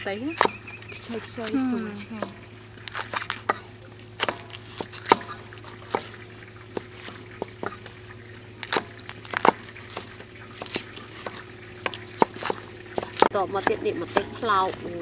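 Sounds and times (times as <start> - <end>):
faint steady hum: 0.0 - 15.0
cleavers chopping on wood: 0.3 - 7.9, 8.6 - 15.0.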